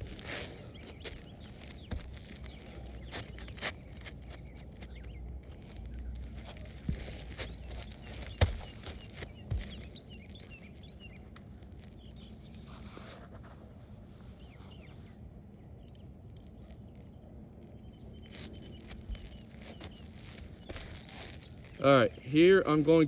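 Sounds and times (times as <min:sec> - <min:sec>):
songbirds chirping and singing: 0:00.0 - 0:12.6, 0:15.8 - 0:23.0.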